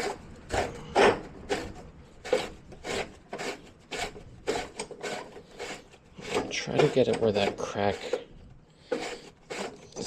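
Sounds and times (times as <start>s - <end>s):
rasping rubbing strokes on plastic: 0.0s - 10.0s.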